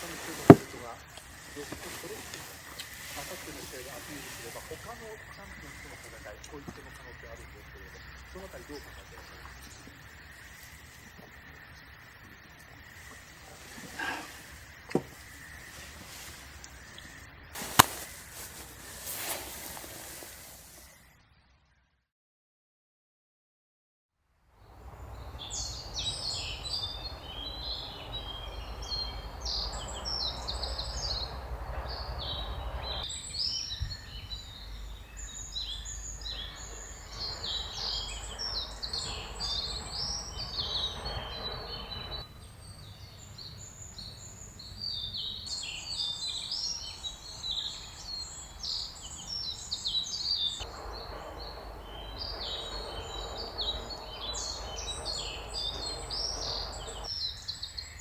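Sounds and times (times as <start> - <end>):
songbirds chirping: 0.0 - 21.6, 24.6 - 58.0.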